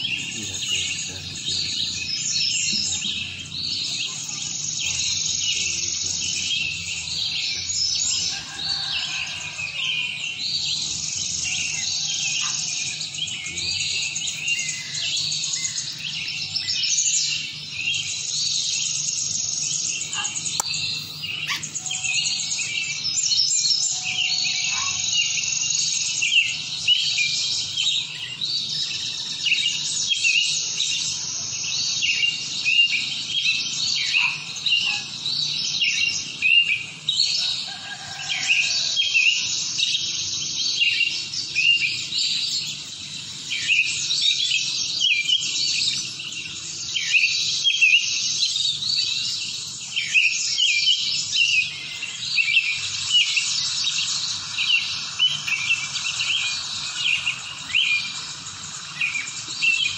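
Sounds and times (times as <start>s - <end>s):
many birds chirping and singing: 0.0s - 59.9s.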